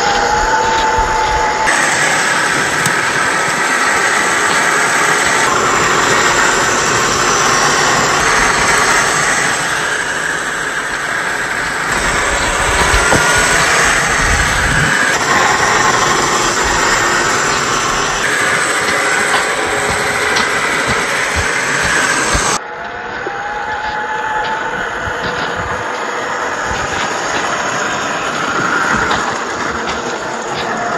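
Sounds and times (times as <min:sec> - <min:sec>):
toy car electric motor whirring: 0:00.0 - 0:22.6, 0:24.2 - 0:30.9.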